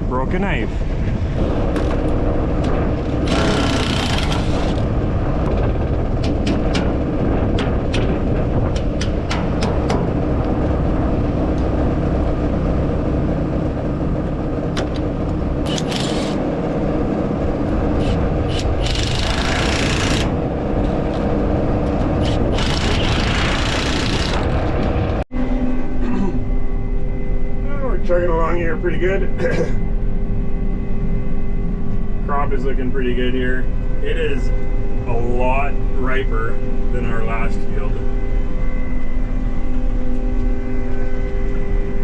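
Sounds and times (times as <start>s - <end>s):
harvester engine hum: 0.0s - 42.0s.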